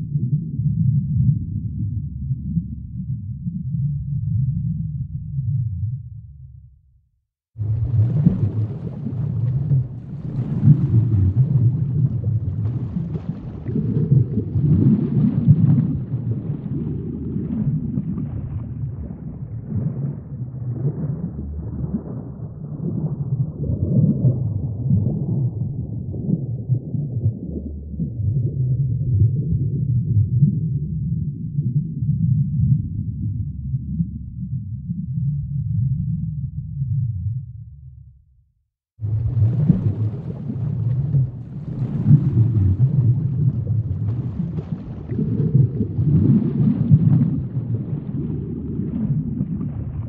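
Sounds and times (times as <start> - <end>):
deep rumbling ambient drone: 0.0 - 6.9, 16.0 - 38.4, 39.0 - 50.0.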